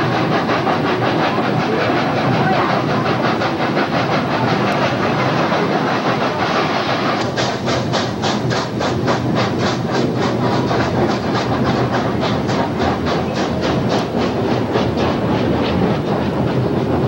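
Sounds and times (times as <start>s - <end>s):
steam locomotive chuffing: 0.0s - 17.0s
train cars rumbling on rails: 0.0s - 17.0s.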